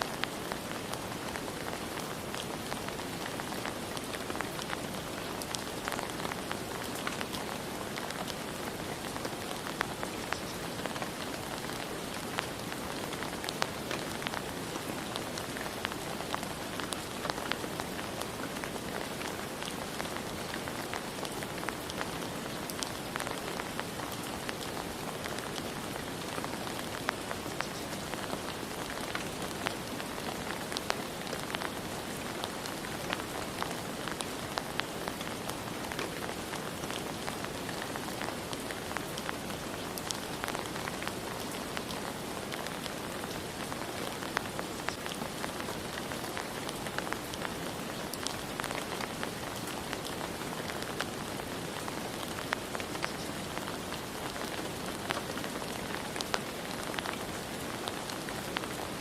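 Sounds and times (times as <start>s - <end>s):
raindrops ticking on surface: 0.0s - 59.0s
steady rain hiss: 0.0s - 59.0s.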